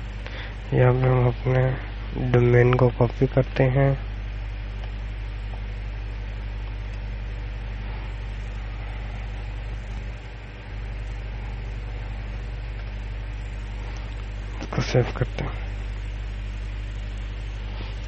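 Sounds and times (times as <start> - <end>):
low hum with hiss: 0.0 - 18.0.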